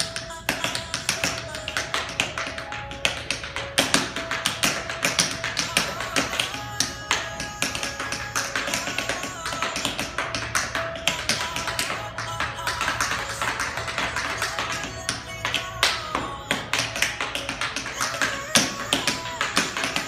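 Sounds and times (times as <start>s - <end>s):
background music: 0.0s - 20.0s
tap shoes clicking on floor: 0.0s - 20.0s.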